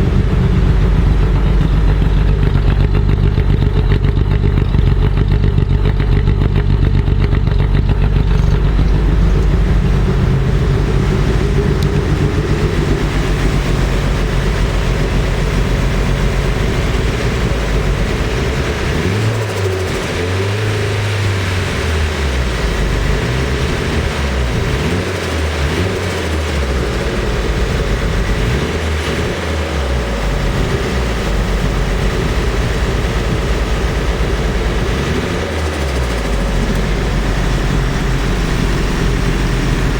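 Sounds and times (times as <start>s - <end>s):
engine misfiring: 0.0s - 39.9s.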